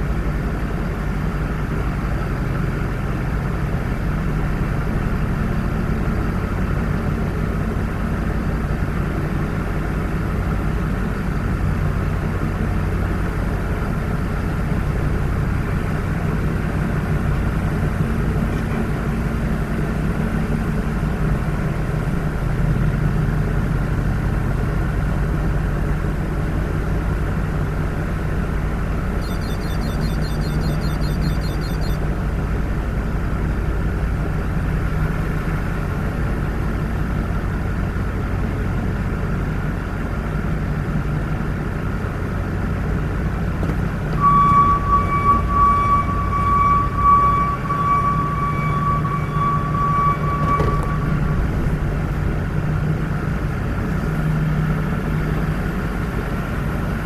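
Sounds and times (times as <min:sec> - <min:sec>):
car engine rumble: 0:00.0 - 0:57.0
road noise: 0:00.0 - 0:57.0.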